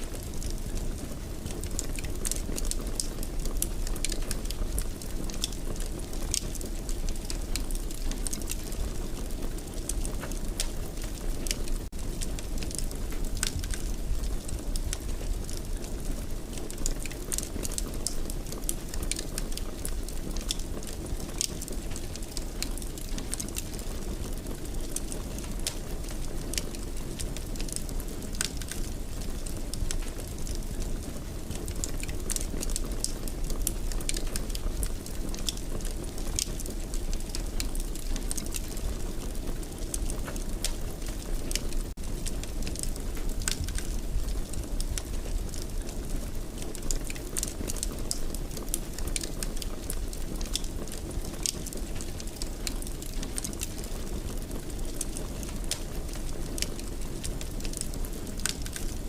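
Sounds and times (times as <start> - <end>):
fireplace flames burning: 0.0 - 59.0
fire crackling and popping: 0.1 - 59.0.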